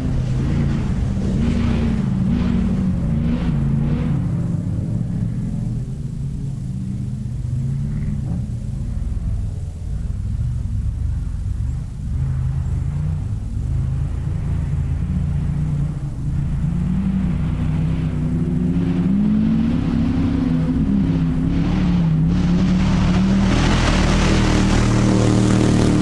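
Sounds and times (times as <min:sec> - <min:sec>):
racing buggy engine revving: 0:00.0 - 0:26.0.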